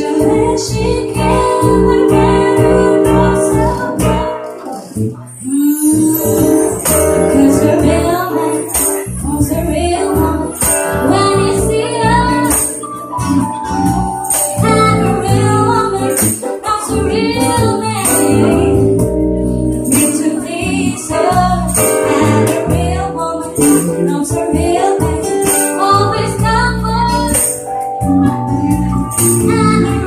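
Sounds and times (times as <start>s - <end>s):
electric bass: 0.0s - 4.4s, 5.0s - 30.0s
woman singing into a microphone: 0.0s - 13.4s, 14.6s - 27.6s, 28.2s - 30.0s.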